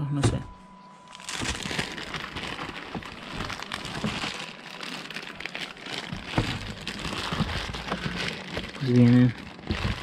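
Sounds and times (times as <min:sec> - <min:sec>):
plastic bag crinkling: 0:01.1 - 0:10.0.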